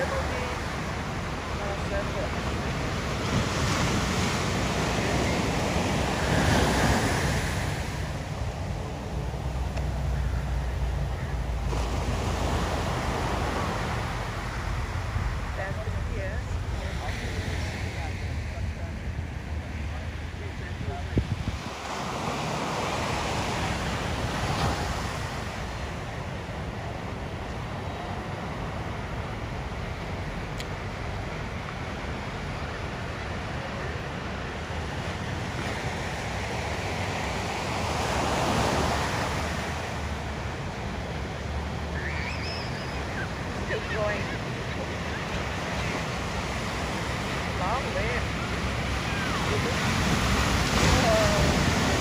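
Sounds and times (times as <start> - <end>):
surf waves breaking: 0.0 - 52.0
wind rumbling on microphone: 0.0 - 52.0.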